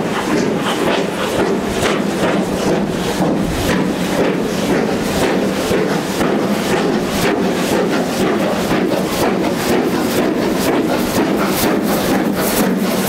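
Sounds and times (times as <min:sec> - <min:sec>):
steam locomotive exhaust chuffing: 0:00.0 - 0:13.0.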